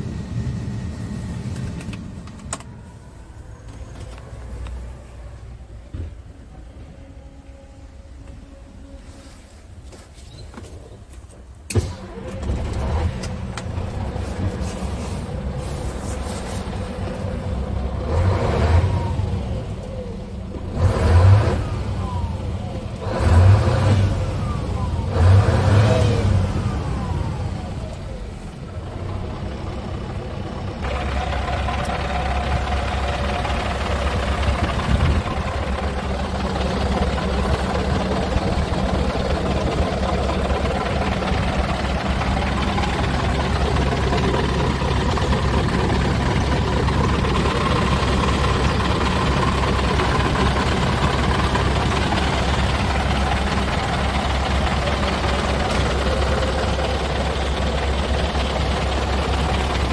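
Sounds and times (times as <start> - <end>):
diesel truck engine idling: 10.9 - 59.9.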